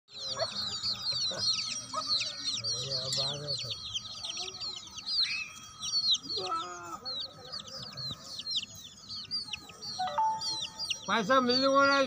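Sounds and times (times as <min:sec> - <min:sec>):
chicks peeping: 0:00.1 - 0:12.0.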